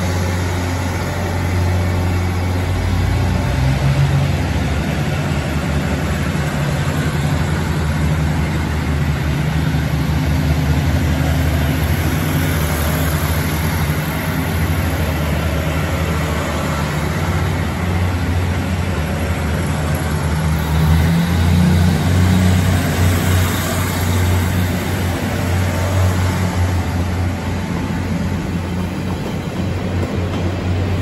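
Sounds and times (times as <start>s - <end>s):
train diesel engines running: 0.0s - 31.0s.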